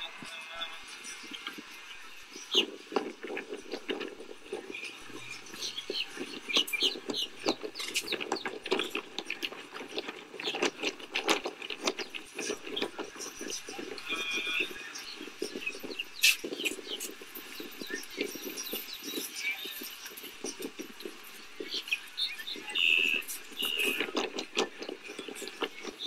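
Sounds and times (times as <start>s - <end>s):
indistinct voices: 0.0s - 10.9s, 11.9s - 26.0s
hoofbeats on sand: 0.0s - 26.0s.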